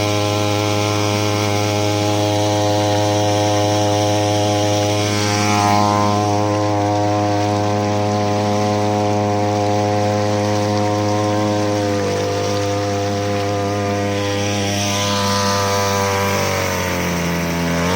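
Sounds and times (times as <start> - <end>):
outboard motor running: 0.0 - 17.9.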